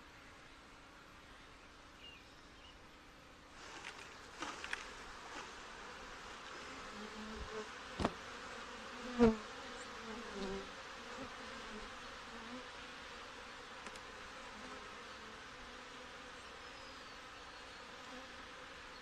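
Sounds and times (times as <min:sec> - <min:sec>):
honey bees buzzing: 0:03.6 - 0:19.0.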